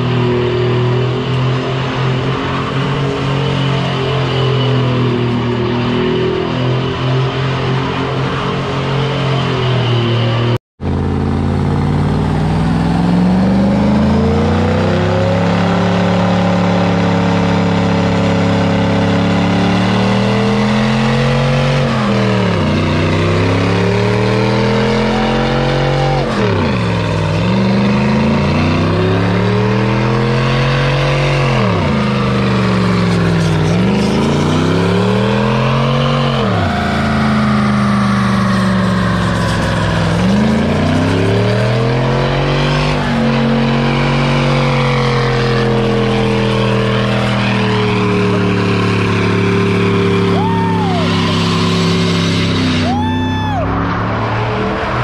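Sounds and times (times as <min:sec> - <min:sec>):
truck engine revving high: 0:00.0 - 0:55.0.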